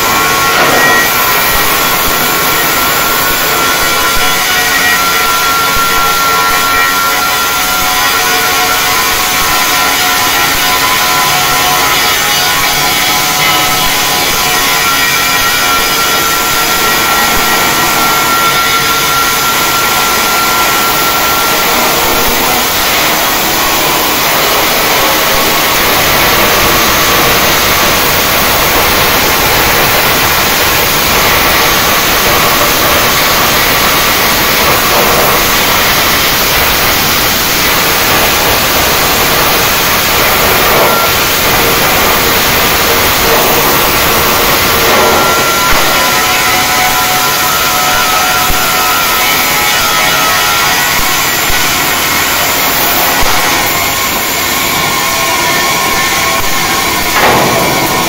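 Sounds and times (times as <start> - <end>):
welding arc crackling hiss: 0.0 - 58.0.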